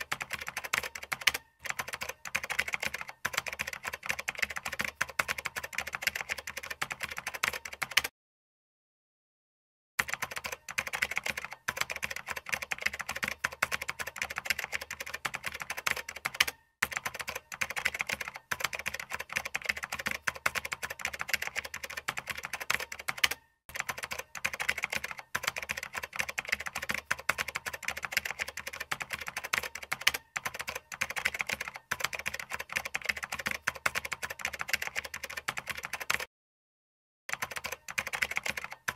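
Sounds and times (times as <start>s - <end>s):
rapid keyboard typing: 0.0s - 8.1s, 10.0s - 36.3s, 37.3s - 38.9s.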